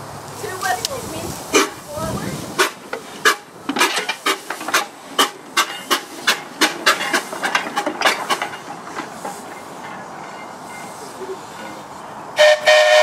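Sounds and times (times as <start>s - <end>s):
air locomotive chuffing: 0.0s - 13.0s.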